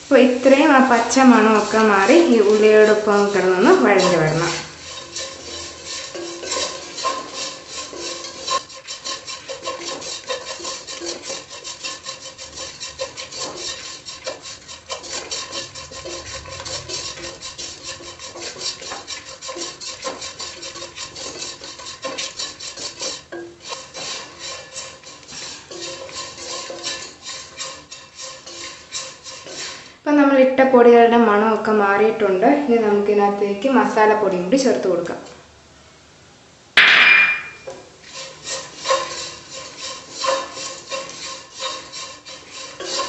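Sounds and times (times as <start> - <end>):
wooden spatula scraping a pan: 0.0 - 30.6, 31.2 - 35.4, 37.4 - 43.0.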